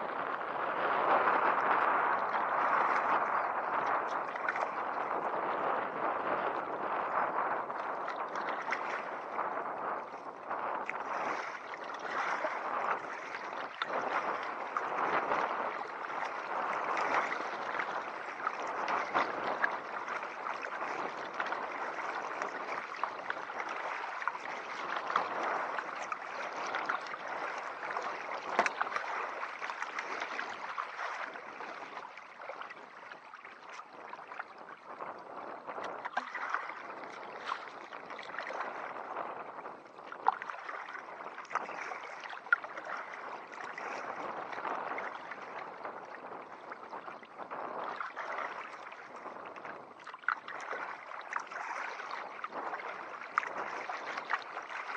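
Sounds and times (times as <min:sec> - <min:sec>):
water splashing around kayak: 0:00.0 - 0:54.9.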